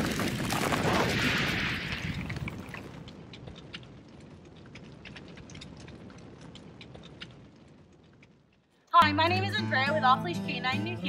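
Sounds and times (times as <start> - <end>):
ember-like crackles: 0.0 - 8.9.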